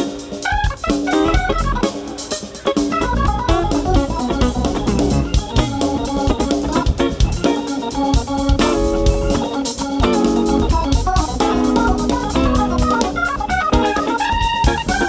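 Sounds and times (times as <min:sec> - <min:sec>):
live rock band playing: 0:00.0 - 0:15.0
organ chords: 0:00.0 - 0:15.0.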